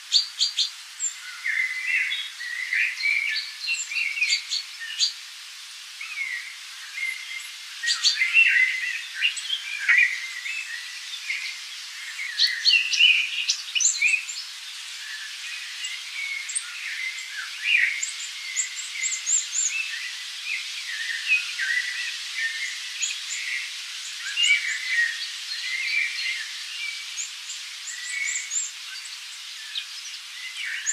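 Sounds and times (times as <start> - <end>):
faint steady hiss: 0.0 - 30.9
small birds chirping: 0.0 - 30.9.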